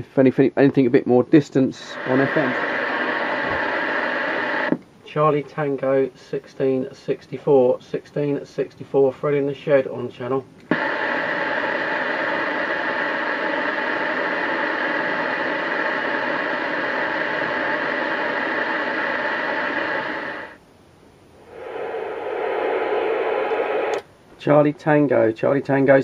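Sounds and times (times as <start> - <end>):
low dull radio hiss: 0.0 - 26.0
radio receiver hiss: 1.7 - 9.0, 9.6 - 20.6, 21.4 - 24.1.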